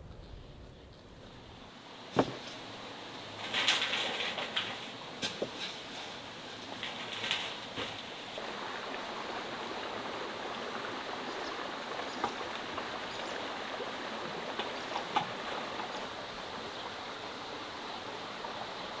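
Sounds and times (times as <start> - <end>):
running water rushing: 1.4 - 19.0.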